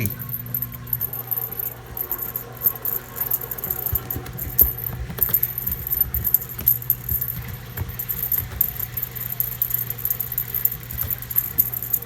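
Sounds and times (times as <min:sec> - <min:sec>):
jingling and rattling clicks: 0:00.0 - 0:12.0
washing machine humming: 0:00.0 - 0:12.0.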